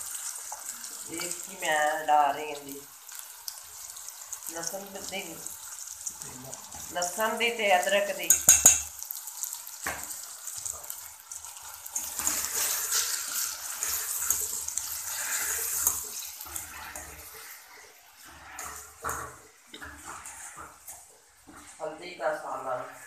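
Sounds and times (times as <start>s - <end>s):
spoon stirring in a pan: 0.0s - 23.0s
vegetables sizzling in oil: 0.0s - 23.0s.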